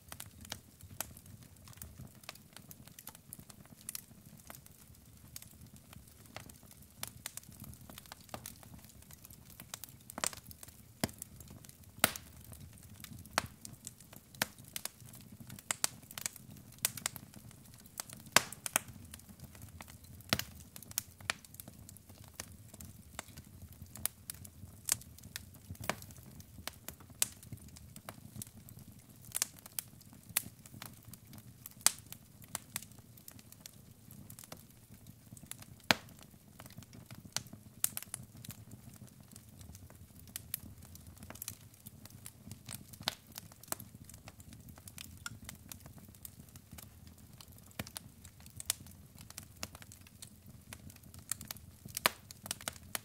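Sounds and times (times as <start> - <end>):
logs crackling in a fireplace: 0.0 - 53.0.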